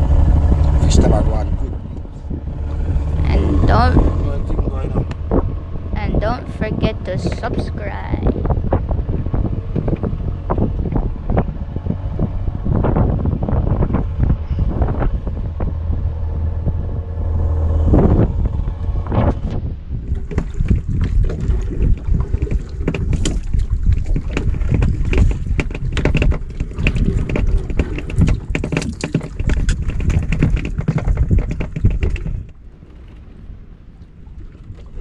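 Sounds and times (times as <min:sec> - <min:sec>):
boat engine hum: 0:00.0 - 0:35.0
wind buffeting microphone: 0:00.0 - 0:35.0.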